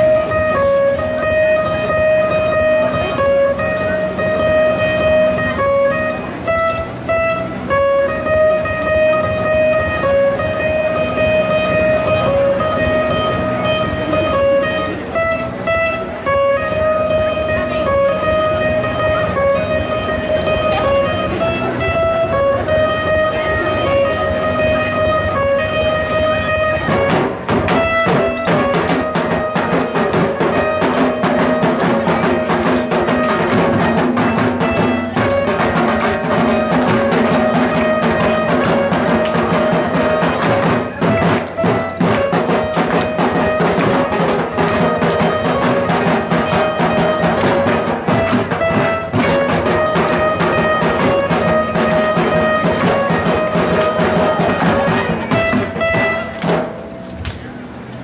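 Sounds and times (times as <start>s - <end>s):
dhol drums beating: 0.0s - 57.0s
guitar melody: 0.0s - 58.0s.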